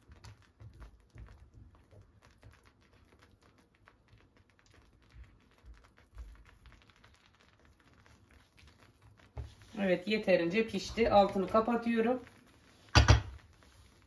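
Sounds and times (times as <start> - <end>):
sauce simmering clicks and pops: 0.0 - 14.0
spatula stirring sauce: 0.0 - 14.0.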